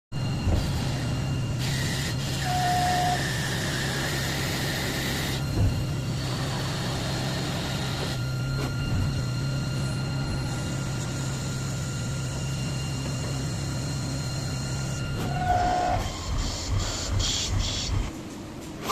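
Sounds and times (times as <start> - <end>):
lathe motor hum with whine: 0.1 - 18.9.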